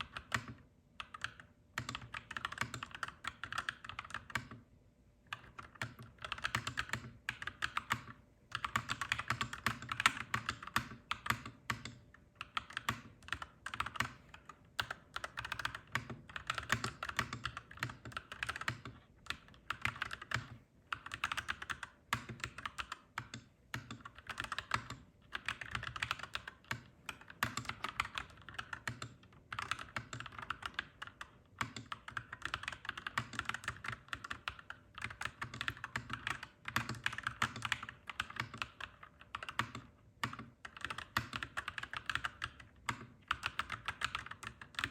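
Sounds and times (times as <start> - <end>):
typing on mechanical keyboard: 0.0 - 4.6, 5.3 - 44.9.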